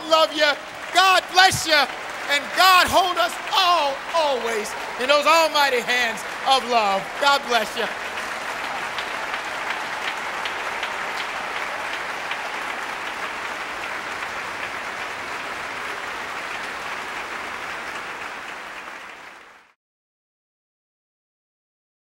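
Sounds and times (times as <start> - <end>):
crowd applauding: 0.0 - 19.8.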